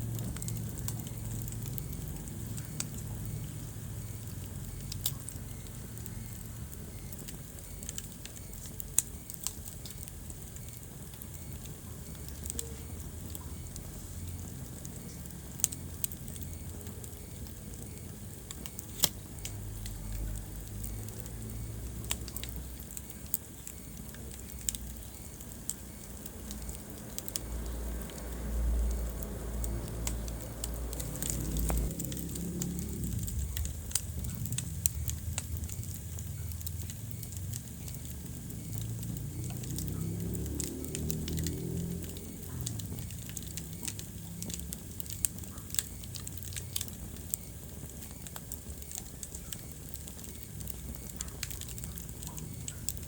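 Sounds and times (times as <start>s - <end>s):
low rumble of flames: 0.0s - 53.0s
wood fire crackling: 0.0s - 53.0s.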